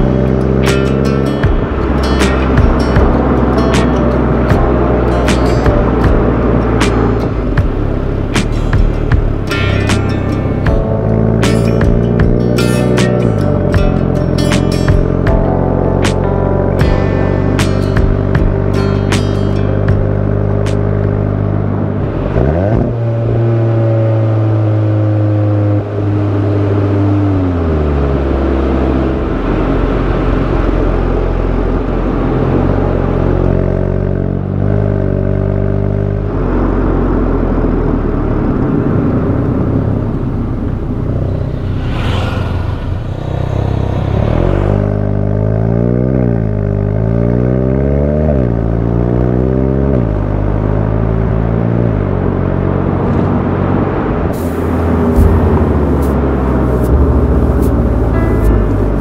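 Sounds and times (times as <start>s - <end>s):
car engine and exhaust revving: 0.0s - 59.0s.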